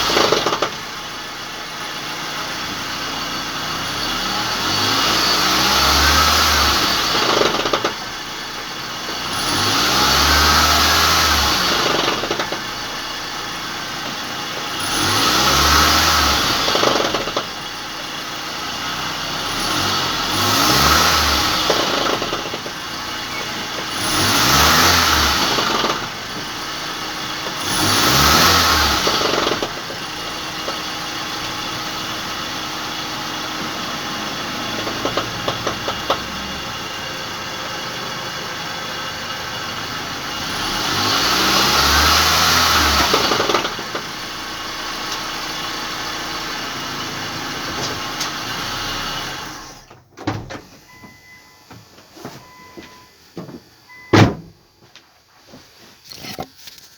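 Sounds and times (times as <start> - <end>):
car engine revving: 0.0 - 49.9
wheels spinning freely: 0.0 - 49.9.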